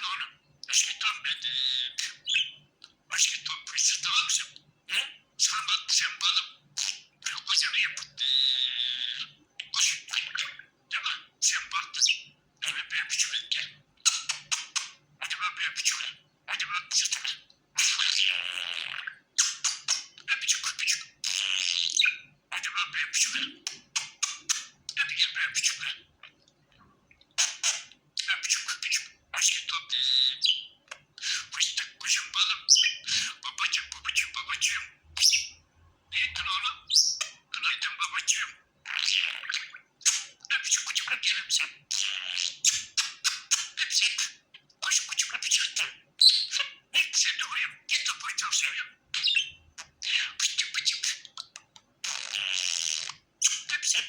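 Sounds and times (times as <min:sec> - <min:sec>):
budgerigar chattering and warbling: 0:00.0 - 0:26.4, 0:27.4 - 0:54.0.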